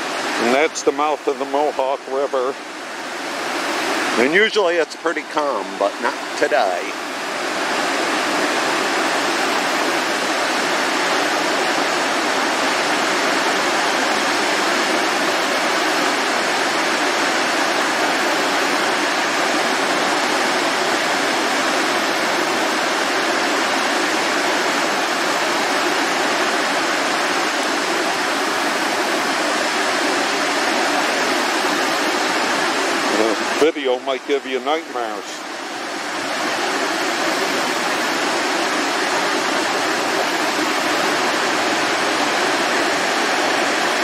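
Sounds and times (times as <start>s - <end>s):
water rushing over dam: 0.0s - 44.0s.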